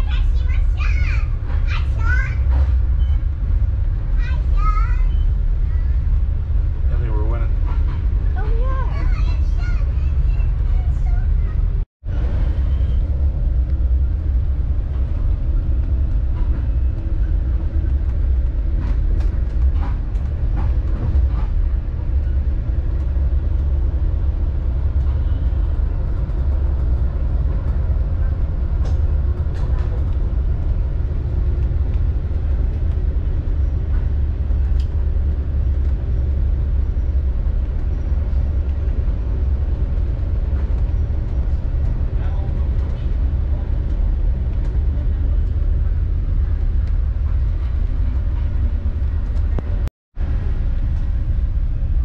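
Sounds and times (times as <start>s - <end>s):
train rumbling inside passenger car: 0.0s - 52.0s.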